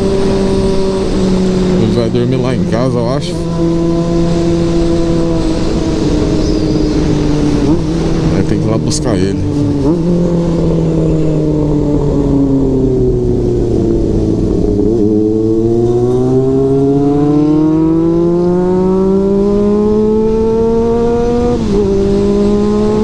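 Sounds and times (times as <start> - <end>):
motorcycle engine accelerating: 0.0 - 23.0
wind rumble: 0.0 - 23.0.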